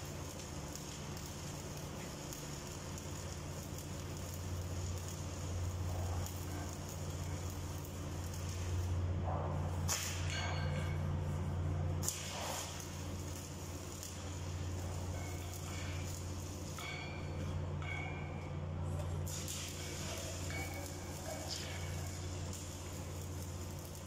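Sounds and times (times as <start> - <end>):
arc welding crackle: 0.0 - 24.0
steady low hum: 0.0 - 24.0.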